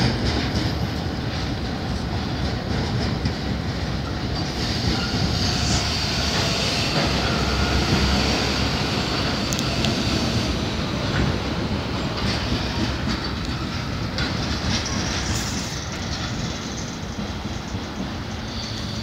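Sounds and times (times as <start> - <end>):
train wagons rumbling: 0.0 - 19.0
wheels clacking over rail joints: 0.0 - 19.0.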